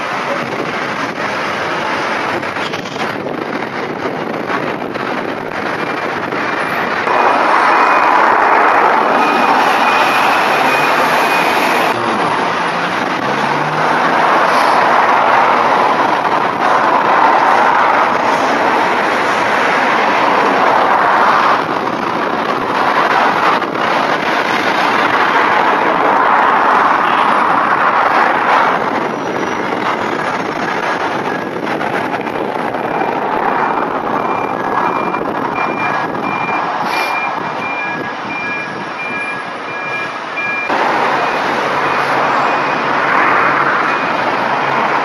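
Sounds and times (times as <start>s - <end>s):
diesel bus engines: 0.0s - 45.0s
traffic: 0.0s - 45.0s.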